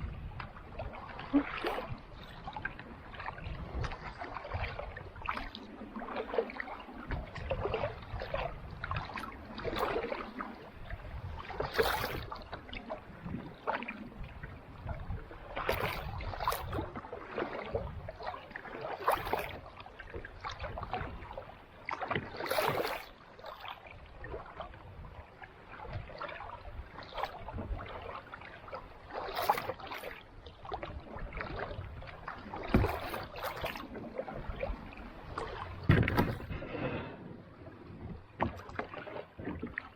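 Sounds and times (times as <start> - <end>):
kayak paddle splashing: 0.0 - 39.9.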